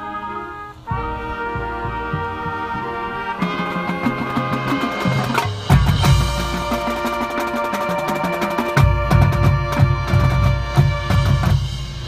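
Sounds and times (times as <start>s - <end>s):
brass and wind chords: 0.0s - 12.0s
drum line percussion: 0.7s - 12.0s.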